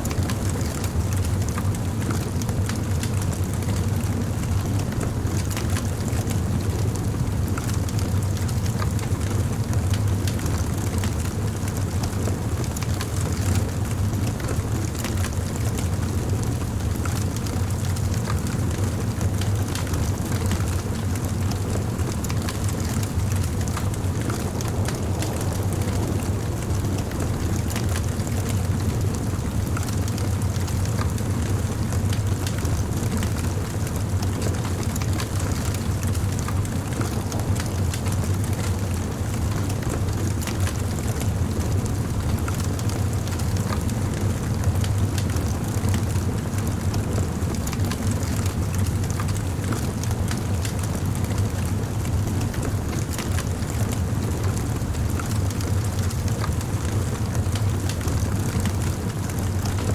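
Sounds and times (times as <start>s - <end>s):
campfire flames rumbling: 0.0s - 59.9s
wood crackling and popping: 0.2s - 59.9s.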